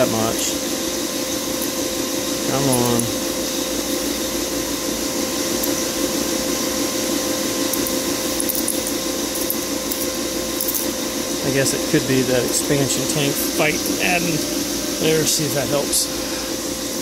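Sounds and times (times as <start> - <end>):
heat pump machinery hum: 0.0 - 17.0.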